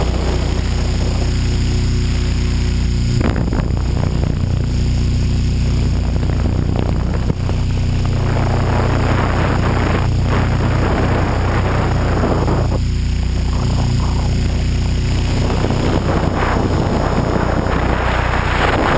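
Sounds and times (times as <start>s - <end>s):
helicopter rotor hum: 0.0s - 18.9s
wind noise on microphone: 0.0s - 18.9s.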